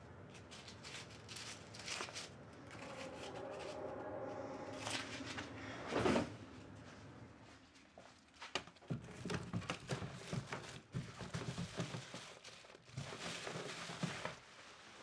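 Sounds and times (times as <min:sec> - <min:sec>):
rustling: 0:00.3 - 0:15.0.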